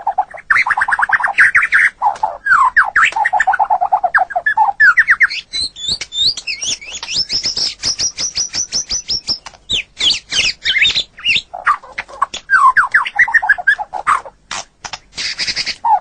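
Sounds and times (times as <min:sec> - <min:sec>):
bird singing varied song: 0:00.0 - 0:16.0.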